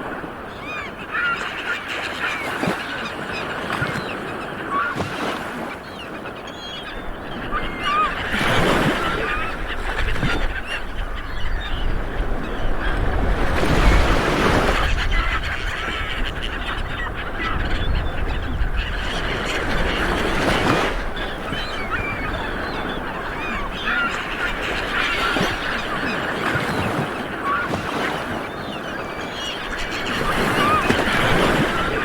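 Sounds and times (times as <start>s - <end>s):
birds chirping: 0.5s - 14.1s, 14.8s - 32.0s.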